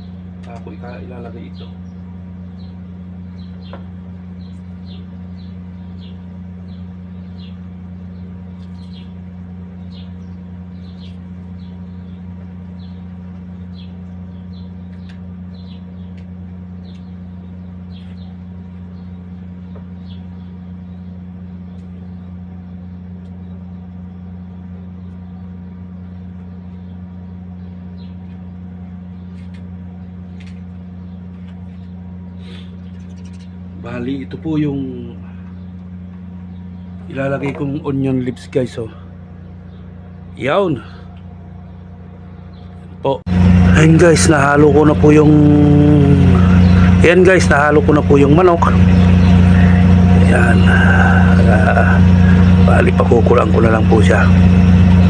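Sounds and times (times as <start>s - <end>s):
low machine hum: 0.0s - 55.0s
small birds chirping: 0.0s - 55.0s.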